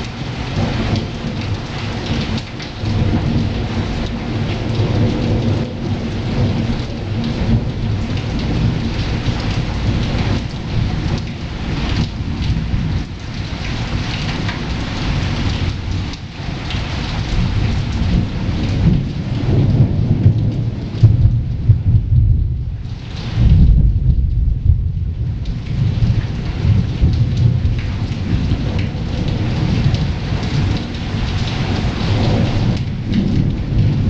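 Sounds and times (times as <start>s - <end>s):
steady rain falling: 0.0s - 34.0s
thunder rumbling: 0.0s - 34.0s.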